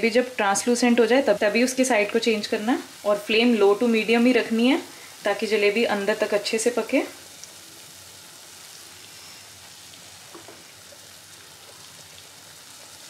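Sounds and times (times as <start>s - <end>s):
batter sizzling in fat: 0.0s - 13.0s.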